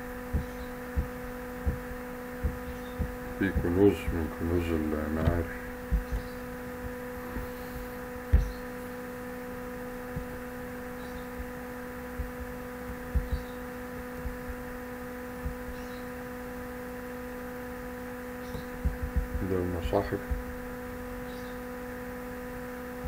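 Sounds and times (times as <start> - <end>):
soft low thumps: 0.0 - 21.5
steady electrical hum: 0.0 - 23.0.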